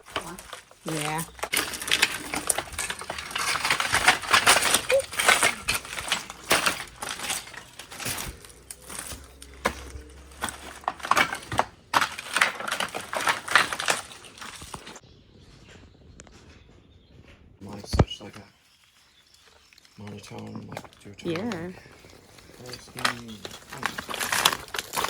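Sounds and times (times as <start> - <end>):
footsteps crunching on debris: 0.0 - 16.6, 18.6 - 25.0.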